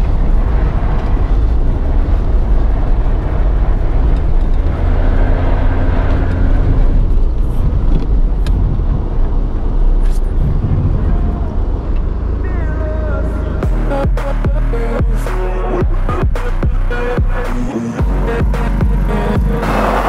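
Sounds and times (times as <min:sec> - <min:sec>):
studded tyres rumbling on ice: 0:00.0 - 0:12.7, 0:15.8 - 0:20.0
car engine pulling under load: 0:00.0 - 0:20.0.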